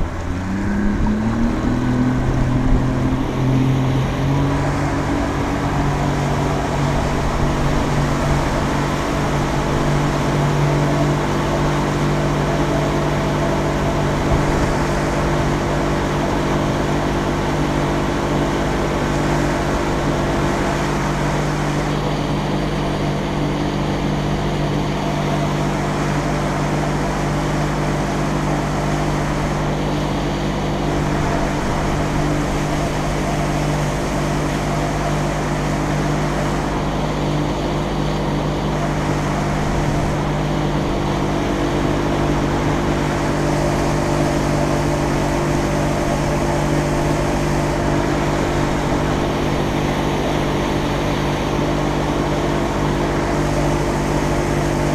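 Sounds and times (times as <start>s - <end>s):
outboard motor droning: 0.0s - 54.9s.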